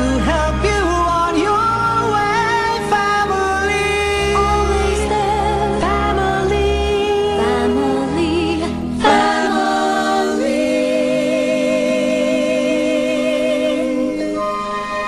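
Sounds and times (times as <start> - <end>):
song with singing voices: 0.0 - 15.0.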